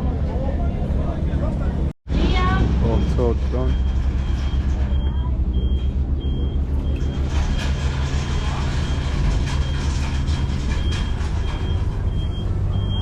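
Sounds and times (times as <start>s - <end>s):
large engine droning: 0.0s - 13.0s.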